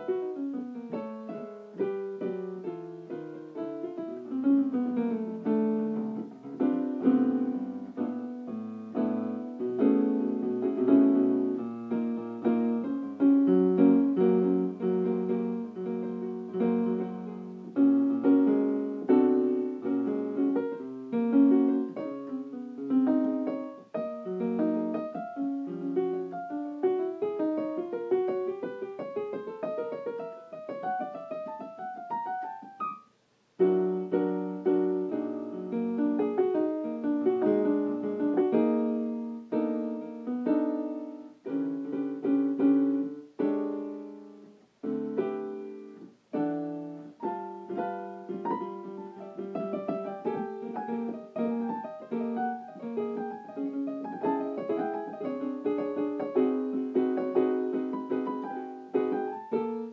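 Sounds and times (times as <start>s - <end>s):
solo piano improvisation: 0.0s - 59.9s.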